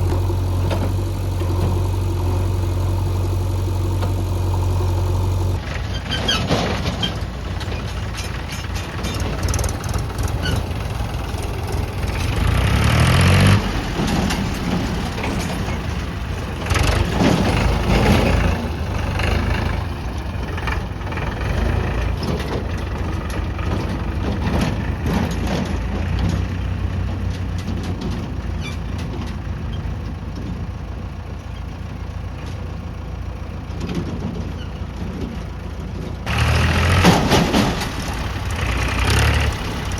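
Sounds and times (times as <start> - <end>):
diesel machinery engine revving: 0.0 - 39.9.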